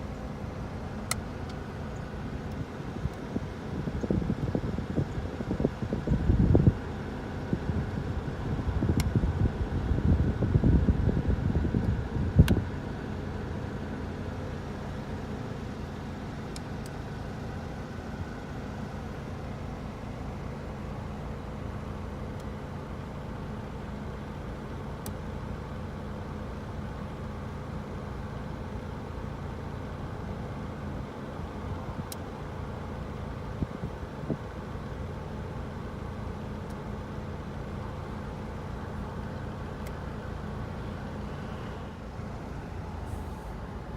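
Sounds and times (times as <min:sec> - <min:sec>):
air-conditioning blower: 0:00.0 - 0:43.9
car cabin running noise: 0:00.0 - 0:43.9.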